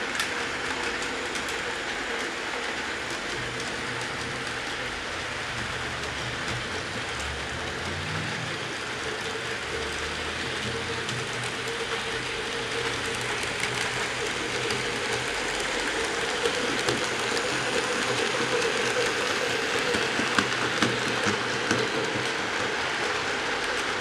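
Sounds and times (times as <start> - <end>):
model train motor whirring: 0.0 - 24.0
wheels clicking over track: 0.1 - 24.0.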